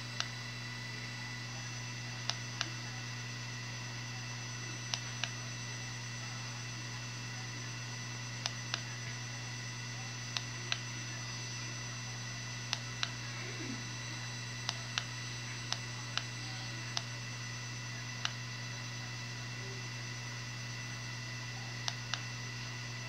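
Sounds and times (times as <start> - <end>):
electrical hum: 0.0 - 23.0
thin high whine: 0.0 - 23.0.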